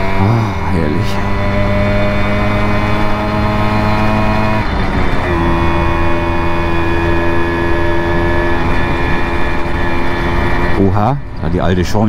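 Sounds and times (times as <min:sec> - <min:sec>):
two-stroke moped engine: 0:00.0 - 0:12.0.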